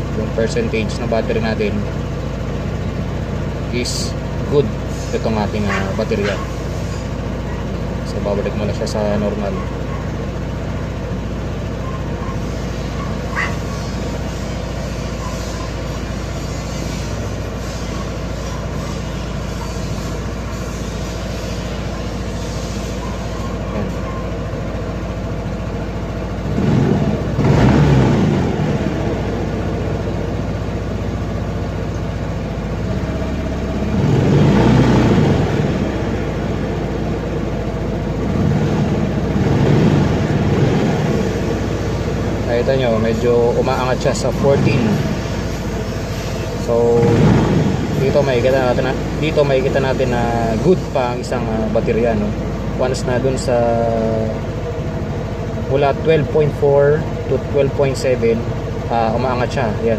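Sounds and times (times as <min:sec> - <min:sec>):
scooter engine idling and revving: 0:00.0 - 0:59.9.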